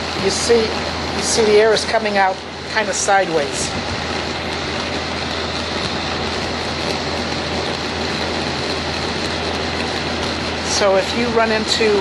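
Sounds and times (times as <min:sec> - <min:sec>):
box fan air rushing: 0:00.0 - 0:12.0
low hum: 0:00.0 - 0:12.0.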